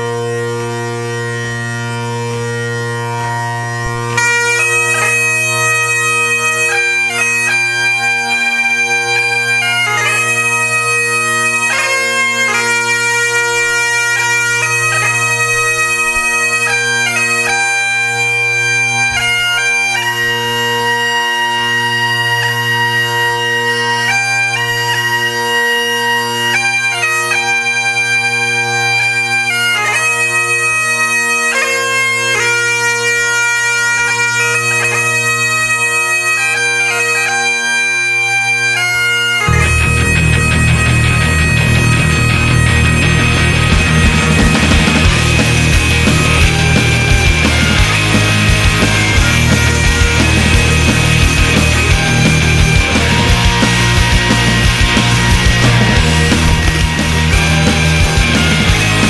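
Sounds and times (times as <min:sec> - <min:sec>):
bagpipe chanter melody: 0:00.0 - 0:59.0
bagpipe drones: 0:00.0 - 0:59.0.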